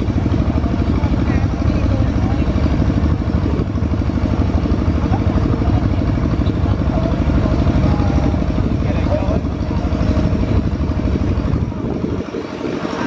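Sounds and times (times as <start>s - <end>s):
tractor engine chugging: 0.0s - 13.0s.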